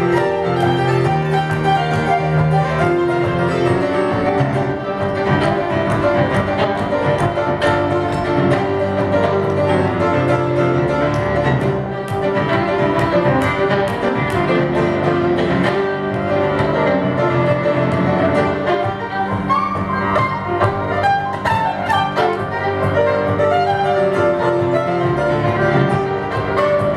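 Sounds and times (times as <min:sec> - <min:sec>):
fiddle melody: 0:00.0 - 0:26.9
piano chords: 0:00.0 - 0:26.9.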